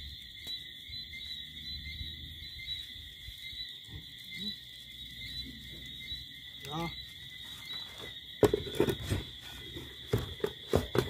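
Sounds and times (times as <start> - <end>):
chorus of insects or frogs: 0.0 - 11.0.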